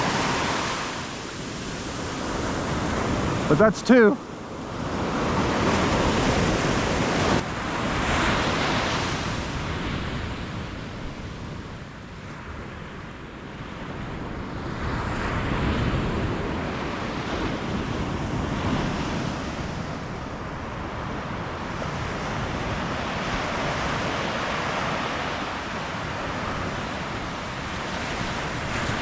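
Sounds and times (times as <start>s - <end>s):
ocean surf breaking: 0.0s - 13.0s, 13.7s - 29.0s
wind on microphone: 4.4s - 29.0s.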